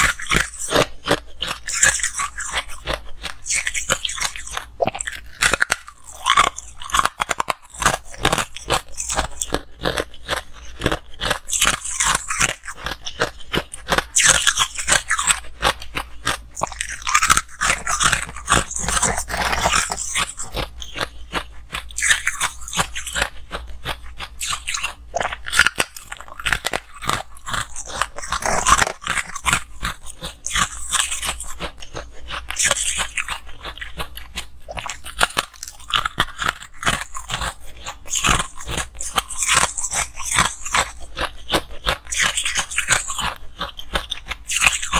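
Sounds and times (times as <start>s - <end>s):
chewing crunchy frost: 0.0s - 44.9s.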